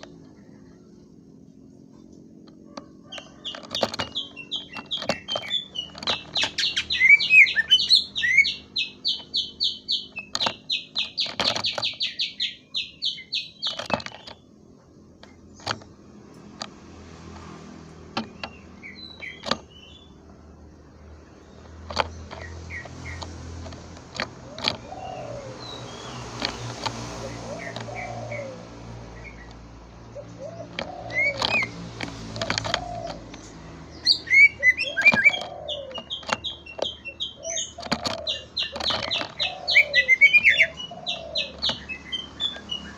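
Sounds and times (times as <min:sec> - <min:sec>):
bird chips and clicks: 0:01.6 - 0:42.9.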